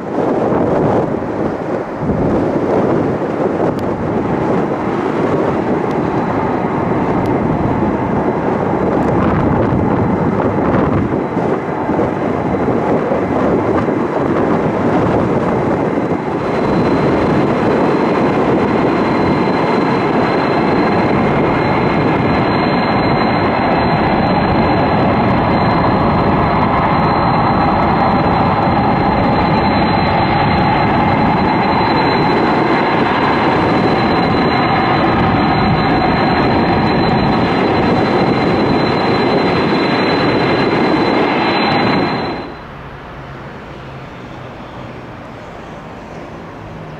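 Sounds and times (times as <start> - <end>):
jet engines rumbling: 0.0 - 46.9
thin high whine: 0.0 - 46.9.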